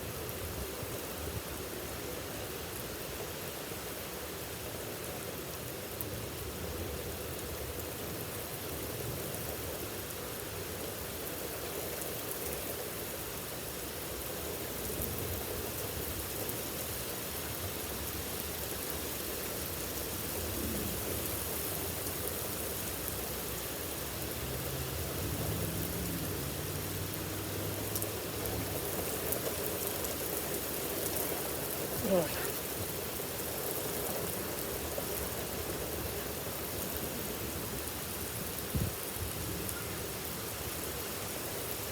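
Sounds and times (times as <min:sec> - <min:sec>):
heavy rain pouring: 0:00.1 - 0:41.9.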